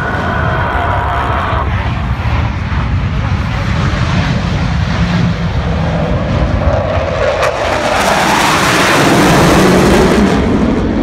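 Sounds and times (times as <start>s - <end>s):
jets passing overhead: 0.0s - 11.0s.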